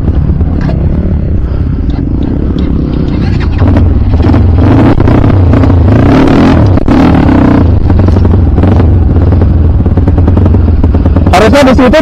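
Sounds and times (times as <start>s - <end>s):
dirt bike engine revving: 2.0s - 12.0s.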